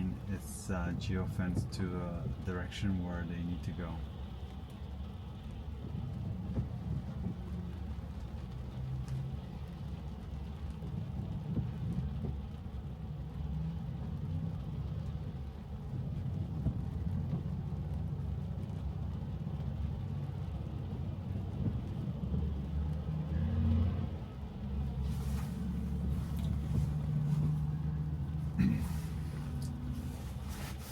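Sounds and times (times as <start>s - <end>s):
road and tyre noise in car cabin: 0.0s - 30.9s.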